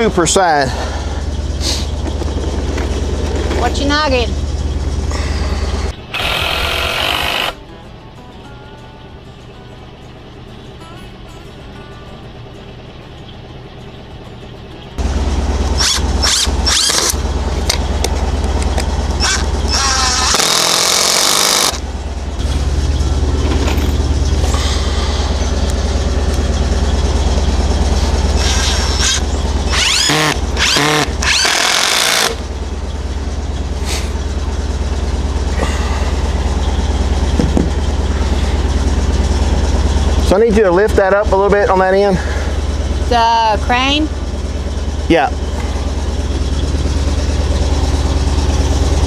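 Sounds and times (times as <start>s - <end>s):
engine humming: 0.0s - 49.0s.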